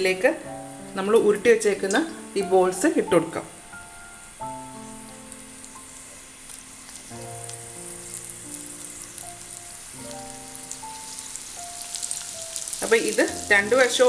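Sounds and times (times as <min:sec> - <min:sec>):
balls frying in oil: 0:00.0 - 0:14.0
soft background music: 0:00.0 - 0:14.0.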